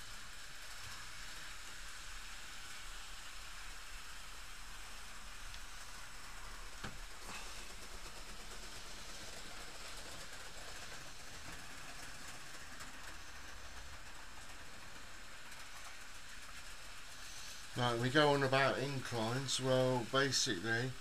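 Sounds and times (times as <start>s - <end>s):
model train running on rails: 0.0s - 21.0s.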